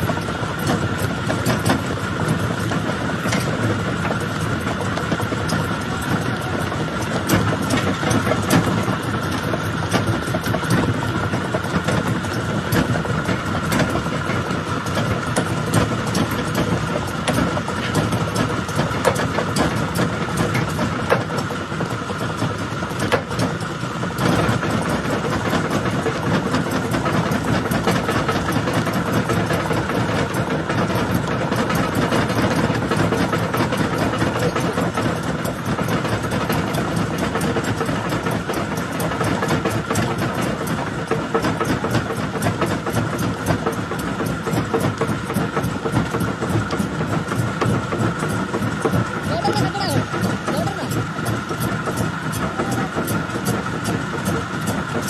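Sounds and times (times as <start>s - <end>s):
crusher machine drone: 0.0s - 55.0s.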